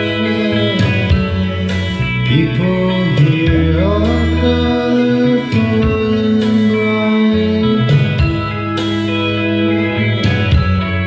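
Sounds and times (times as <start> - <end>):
guitar music with gliding notes: 0.0 - 11.0.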